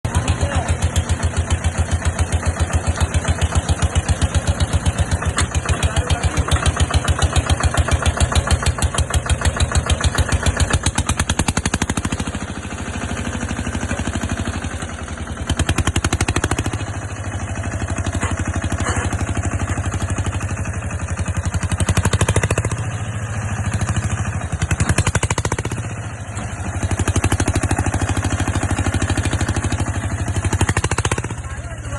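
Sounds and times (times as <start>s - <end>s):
tractor diesel engine revving: 0.0s - 31.9s.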